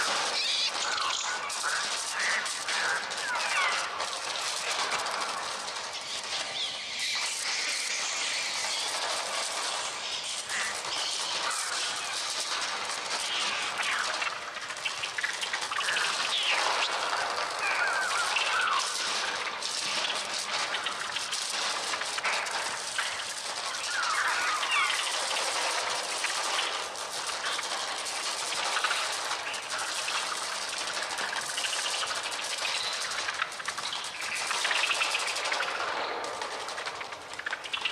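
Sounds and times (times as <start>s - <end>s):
steady rushing hiss: 0.0s - 37.9s.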